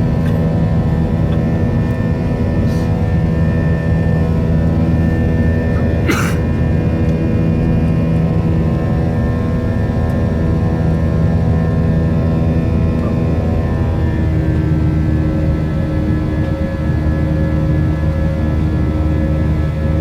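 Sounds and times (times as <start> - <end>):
jet engines humming in cabin: 0.0 - 20.0.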